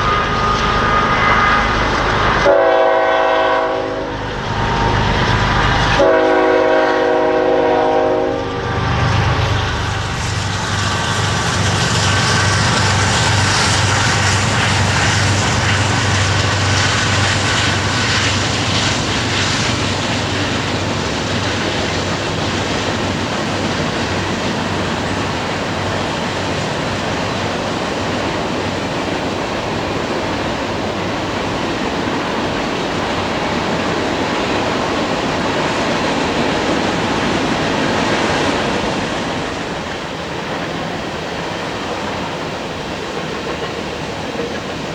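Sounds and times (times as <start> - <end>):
diesel locomotive engines: 0.0 - 44.9
freight cars rolling on rails: 0.0 - 44.9.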